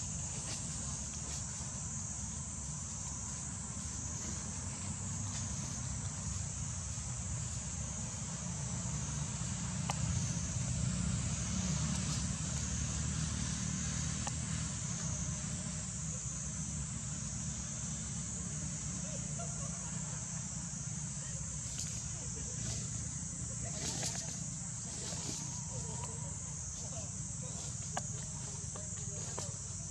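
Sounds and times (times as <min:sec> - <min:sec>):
high-pitched insect drone: 0:00.0 - 0:29.9.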